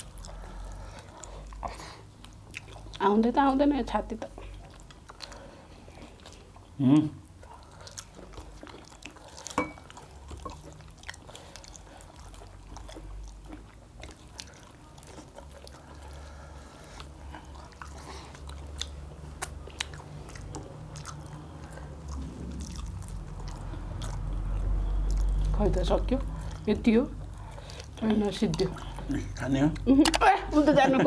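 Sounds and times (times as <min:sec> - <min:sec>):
person chewing meat: 0:00.0 - 0:03.0, 0:04.3 - 0:25.6, 0:26.2 - 0:29.9.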